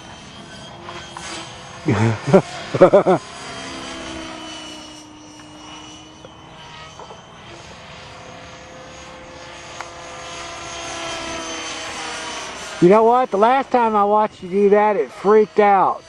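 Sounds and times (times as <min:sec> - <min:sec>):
rc helicopter rotor whine: 0:00.0 - 0:16.0.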